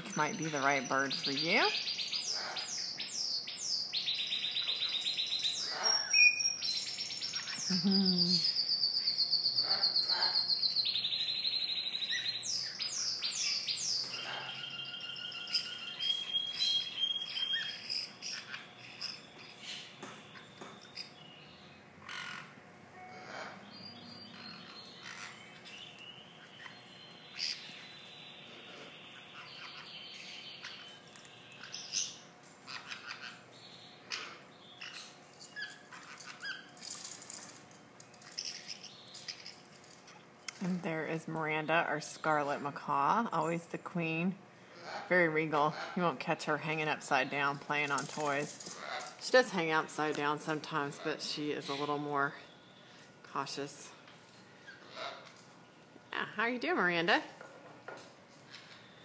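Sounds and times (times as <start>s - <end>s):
birds singing and chirping: 0.0s - 57.2s.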